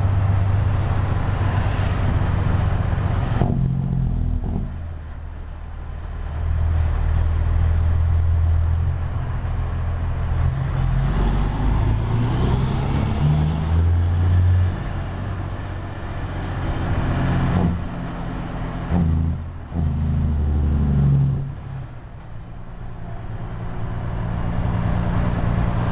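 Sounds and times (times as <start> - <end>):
diesel truck engine accelerating: 0.0 - 25.9.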